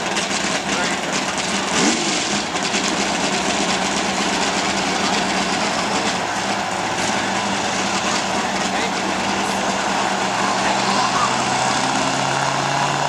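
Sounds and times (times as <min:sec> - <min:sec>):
diesel engine droning: 0:00.0 - 0:13.0
wide rushing noise: 0:00.0 - 0:13.0.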